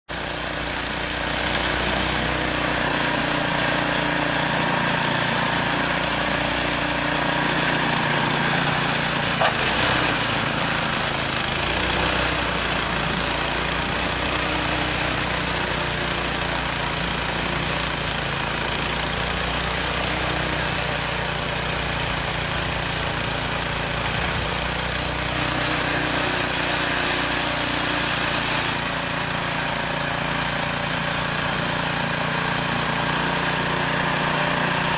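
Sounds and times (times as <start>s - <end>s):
snowblower engine running: 0.1s - 34.9s.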